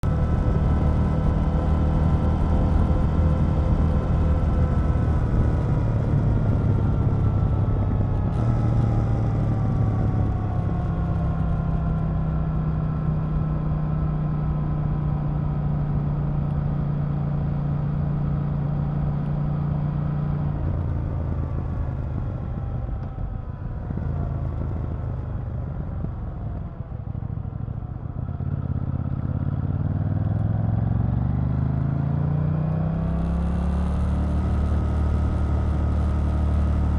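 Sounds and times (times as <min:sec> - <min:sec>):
motorcycle engine while riding: 0:00.0 - 0:36.9.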